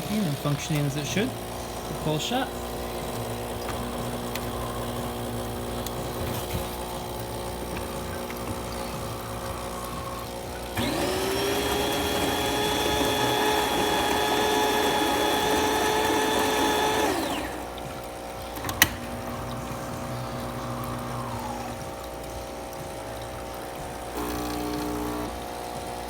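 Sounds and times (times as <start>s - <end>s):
coffee grinder whining: 0.0s - 26.0s.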